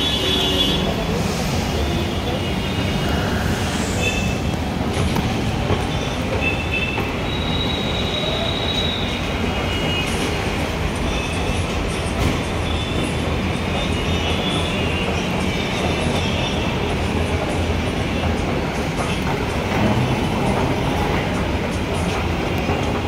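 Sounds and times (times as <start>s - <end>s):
metro station rumble: 0.0s - 23.0s.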